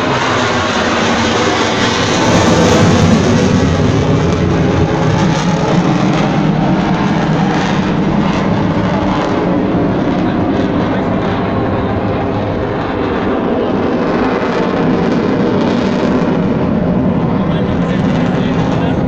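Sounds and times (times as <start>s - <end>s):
jet engine rushing: 0.0s - 19.0s.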